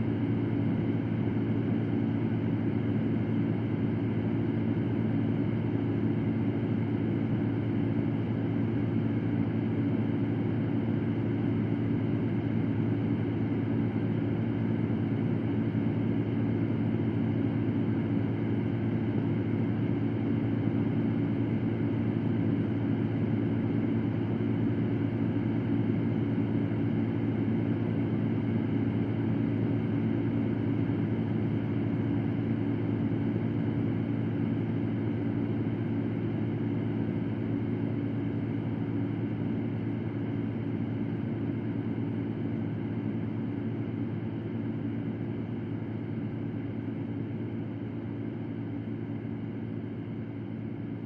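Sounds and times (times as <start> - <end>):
electric fan running: 0.0 - 51.0.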